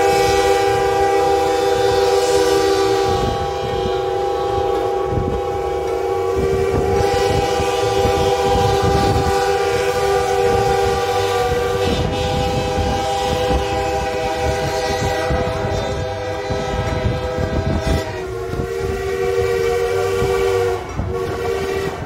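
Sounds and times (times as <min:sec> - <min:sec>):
steam locomotive whistle: 0:00.0 - 0:22.0
train wheels rumbling on rails: 0:00.0 - 0:22.0.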